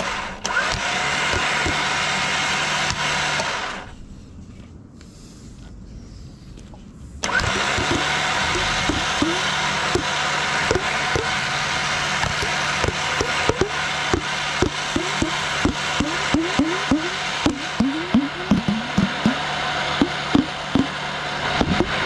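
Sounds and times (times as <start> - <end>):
electric winch motor humming: 0.0 - 4.0, 7.2 - 22.0.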